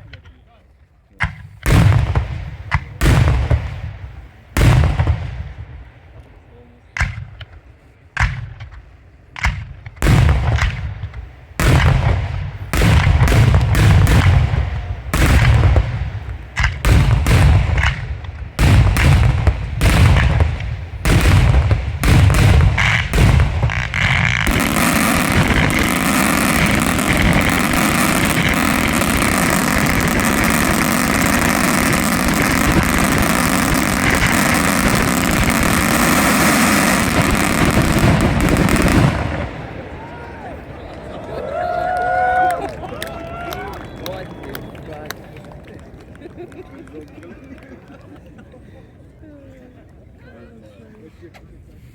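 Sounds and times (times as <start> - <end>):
fireworks bangs: 1.2 - 46.3.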